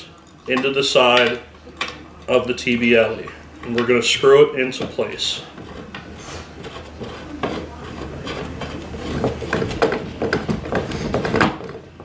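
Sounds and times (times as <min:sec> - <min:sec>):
connector threads scraping and clicking: 0:00.2 - 0:04.0, 0:04.8 - 0:11.4.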